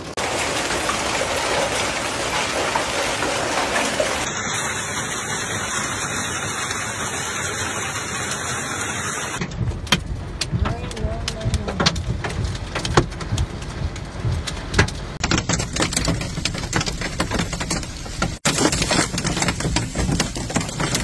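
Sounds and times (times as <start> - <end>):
hail and heavy rain pelting: 0.0 - 9.4, 10.5 - 21.0.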